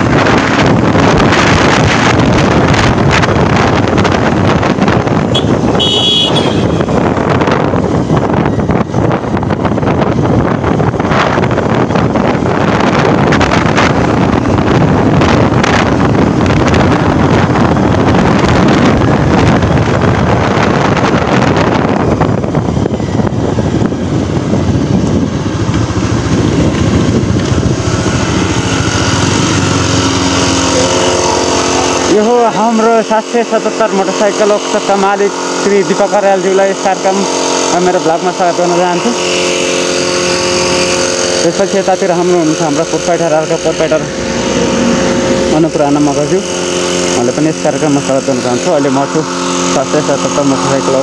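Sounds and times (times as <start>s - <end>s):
motorcycle engine running: 0.0s - 51.0s
wind noise on microphone: 0.0s - 51.0s.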